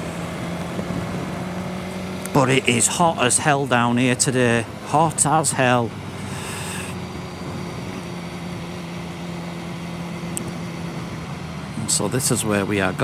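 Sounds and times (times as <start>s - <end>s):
motorcycle engine humming: 0.0s - 13.0s.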